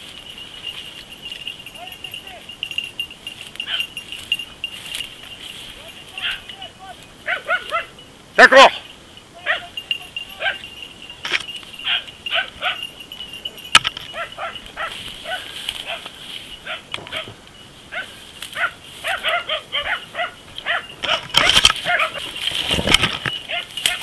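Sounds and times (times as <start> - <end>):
dogs yelping barks: 3.4 - 5.0, 5.7 - 24.0.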